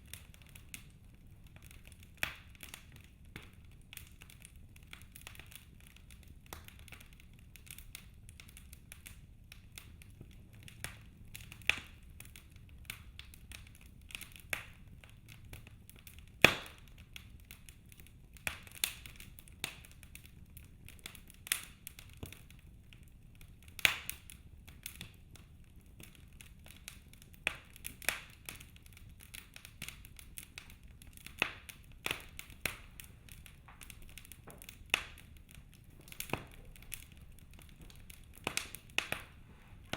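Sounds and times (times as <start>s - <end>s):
logs crackling and popping: 0.0s - 39.9s
low rumble of fire: 0.0s - 39.9s.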